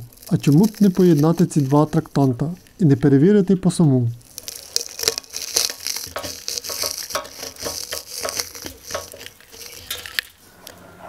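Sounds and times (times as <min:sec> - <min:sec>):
dry feathers crackling and crunching: 0:00.0 - 0:10.8.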